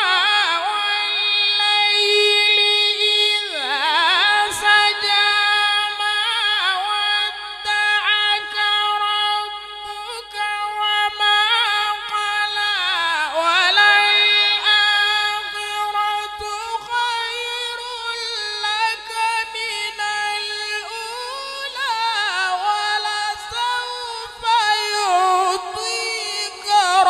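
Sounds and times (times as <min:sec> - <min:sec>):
man chanting through microphone: 0:00.0 - 0:27.0.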